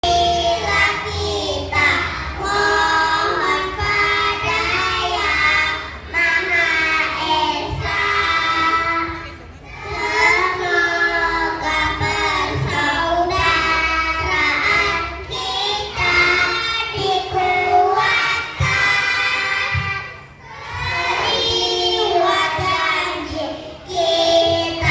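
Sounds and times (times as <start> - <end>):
children's choir singing: 0.0 - 24.9.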